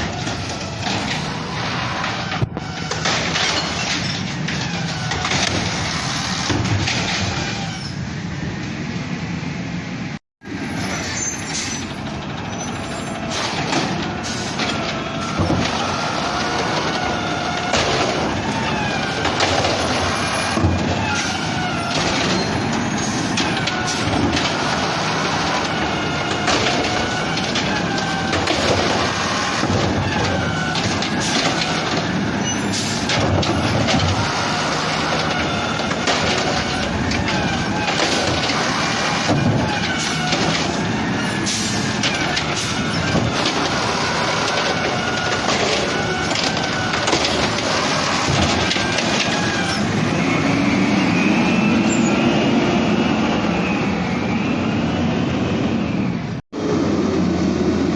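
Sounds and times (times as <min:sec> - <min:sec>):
garbage truck engine revving: 0:00.0 - 0:08.9, 0:10.4 - 0:57.9.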